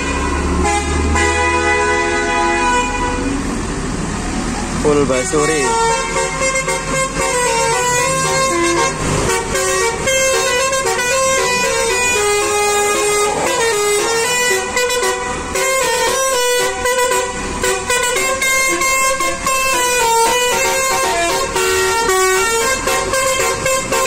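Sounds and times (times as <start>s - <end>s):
multi-tone air horn playing tune: 0.0s - 3.4s, 5.2s - 24.0s
bus rumble: 0.0s - 24.0s.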